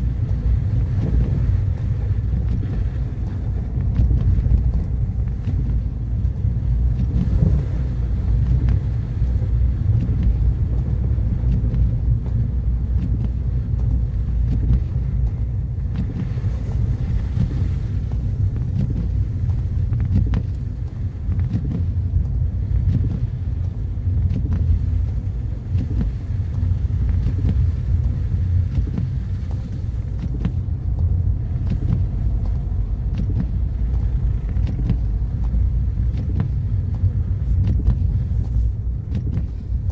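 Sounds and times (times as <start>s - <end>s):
car engine and tyre rumble: 0.0s - 39.9s
faint ticks: 0.1s - 39.9s.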